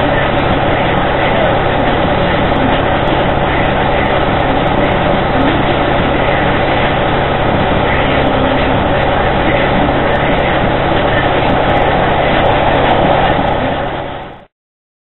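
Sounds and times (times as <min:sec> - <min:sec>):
diesel engine droning: 0:00.0 - 0:14.5.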